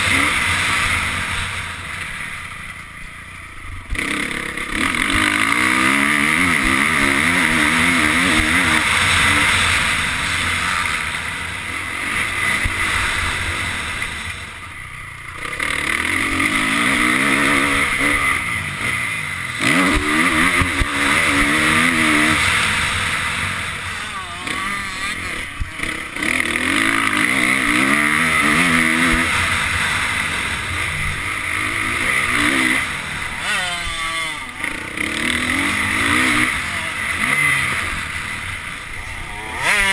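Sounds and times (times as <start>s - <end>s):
motorcycle engine revving hard: 0.0s - 2.8s, 3.7s - 39.9s.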